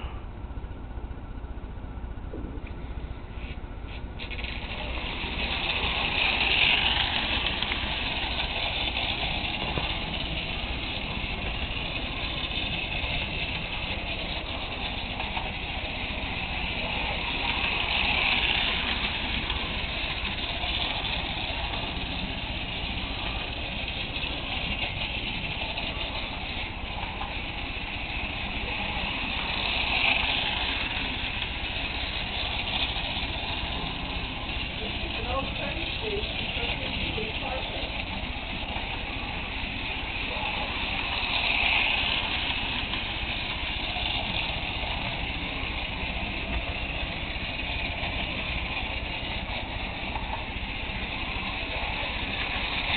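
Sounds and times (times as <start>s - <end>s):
low hum: 0.0s - 52.9s
toy train motor whir: 3.4s - 52.9s
wheel rumble on track: 4.2s - 52.9s.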